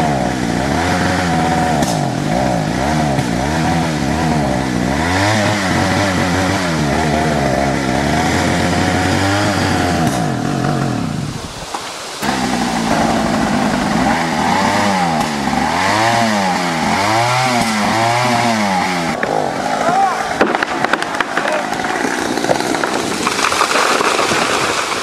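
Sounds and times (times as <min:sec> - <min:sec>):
chainsaw revving: 0:00.0 - 0:25.0.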